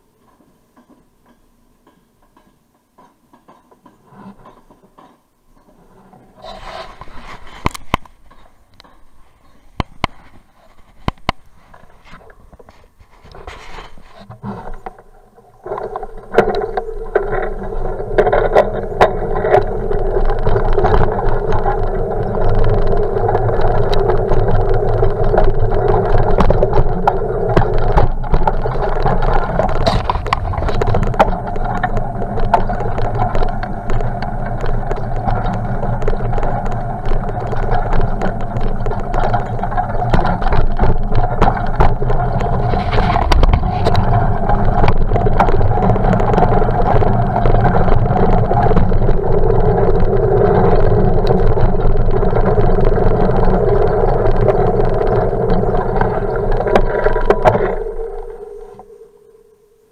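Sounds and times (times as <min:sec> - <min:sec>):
rattles and knocks over bumps: 0:00.2 - 0:58.2
bicycle tyres rumbling on dirt: 0:05.7 - 0:58.9
steady hum: 0:05.8 - 0:59.9.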